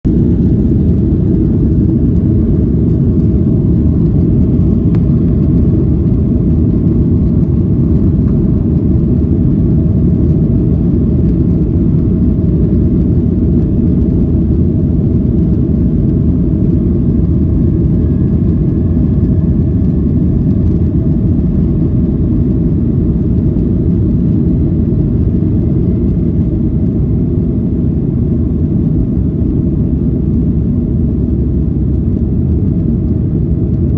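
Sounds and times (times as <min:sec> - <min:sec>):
faint engine whine: 0:00.0 - 0:33.9
jet engines rumbling: 0:00.0 - 0:33.9.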